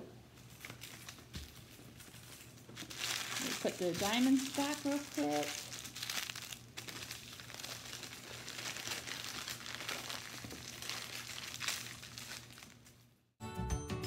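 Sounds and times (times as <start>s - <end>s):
plastic bags crinkling: 0.4s - 13.2s.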